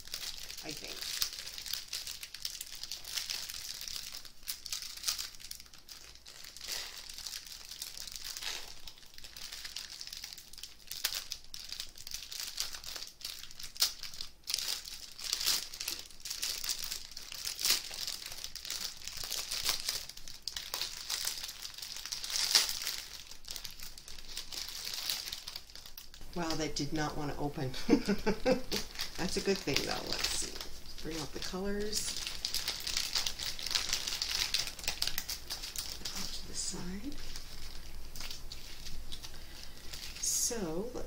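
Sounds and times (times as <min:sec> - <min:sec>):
plastic packaging crinkling: 0:00.0 - 0:41.0.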